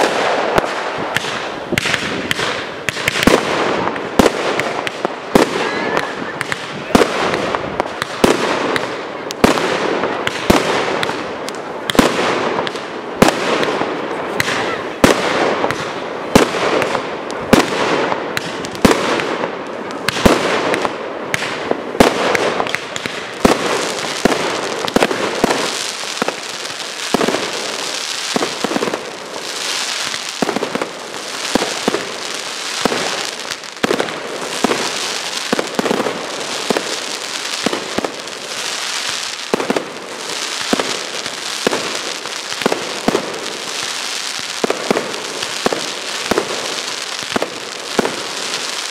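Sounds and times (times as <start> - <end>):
fireworks crackle: 0.0 - 48.9.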